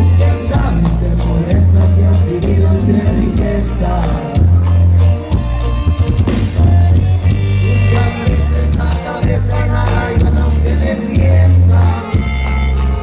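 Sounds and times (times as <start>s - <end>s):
person singing: 0.0s - 5.0s, 6.6s - 13.0s
live band playing: 0.0s - 13.0s
strong bass line: 0.0s - 13.0s.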